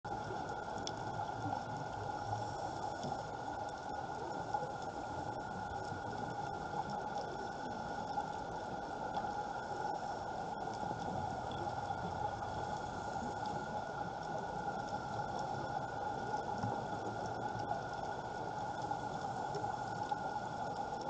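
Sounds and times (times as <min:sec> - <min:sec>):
faint steady whine: 0:00.1 - 0:21.0
muffled underwater hiss and crackle: 0:00.1 - 0:21.0.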